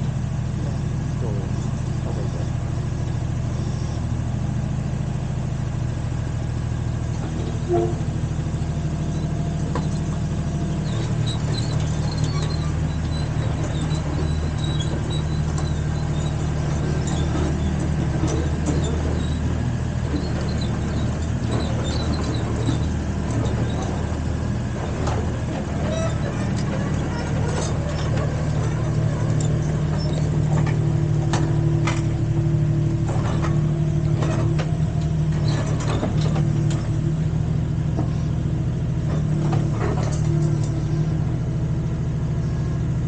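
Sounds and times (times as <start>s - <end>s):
mini excavator engine running: 0.0s - 43.0s.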